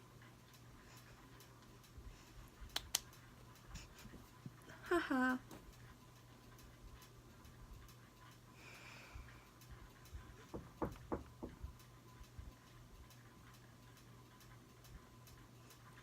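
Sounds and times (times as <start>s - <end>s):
faint regular ticking: 0.0s - 16.0s
low steady hum: 0.0s - 16.0s.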